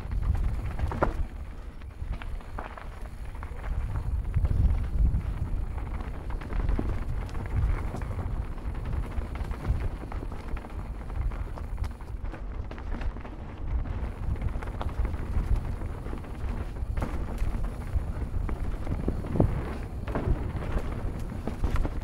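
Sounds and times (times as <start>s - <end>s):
bike rattling over bumps: 0.0s - 22.0s
bike tyres rolling on dirt: 0.0s - 22.0s
wind rumbling on microphone: 0.0s - 22.0s.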